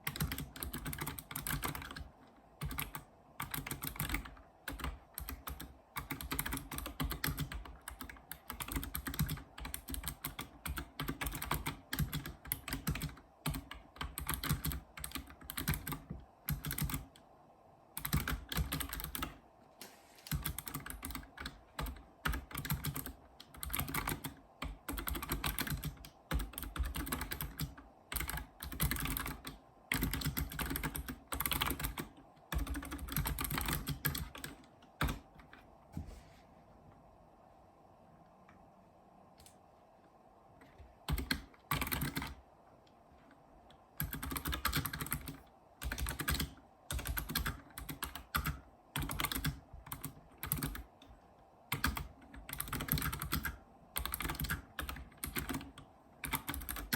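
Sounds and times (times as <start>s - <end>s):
keyboard keys clicking: 0.0s - 17.2s, 18.0s - 19.4s, 20.3s - 35.6s, 41.0s - 42.4s, 43.7s - 50.9s, 51.7s - 56.9s.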